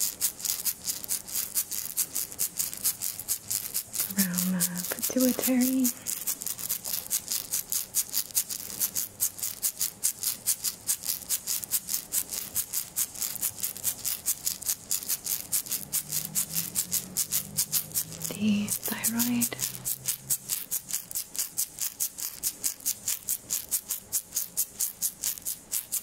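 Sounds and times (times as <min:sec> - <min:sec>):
handheld rattle shaken: 0:00.0 - 0:26.0.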